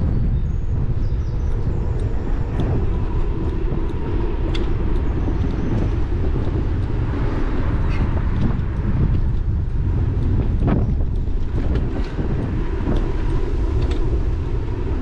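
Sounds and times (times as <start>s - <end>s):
wind rumble on microphone: 0.0s - 15.0s
small rattles and clicks: 1.4s - 15.0s.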